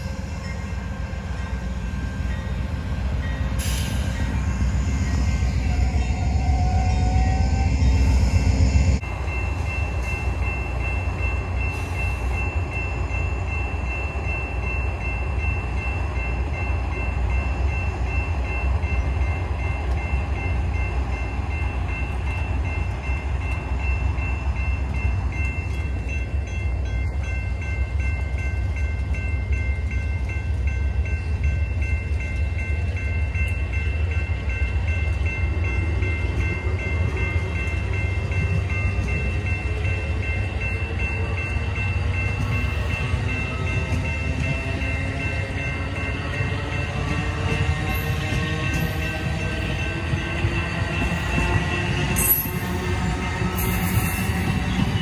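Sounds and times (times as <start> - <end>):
crossing bell ringing: 0.0 - 55.0
train wheels rumbling on rails: 0.0 - 55.0.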